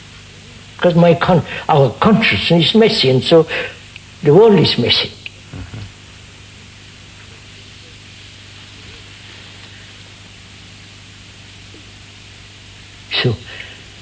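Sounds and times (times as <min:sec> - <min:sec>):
low electrical hum: 0:00.0 - 0:14.0
recording hiss: 0:00.0 - 0:14.0.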